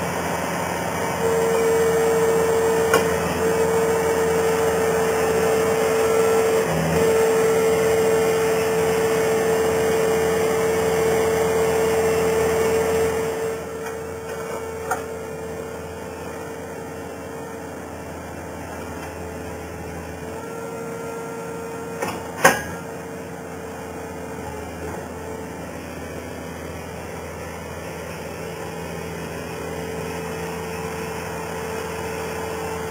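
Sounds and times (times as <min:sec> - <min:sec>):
loader engine and hydraulic whine: 0:00.0 - 0:32.9.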